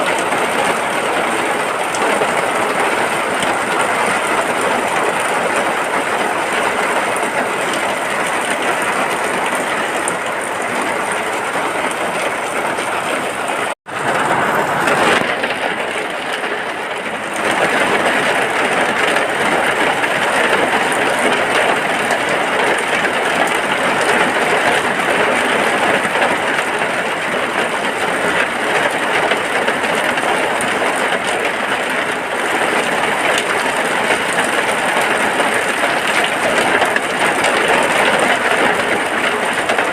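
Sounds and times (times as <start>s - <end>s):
heavy rain on a hut: 0.0s - 39.9s.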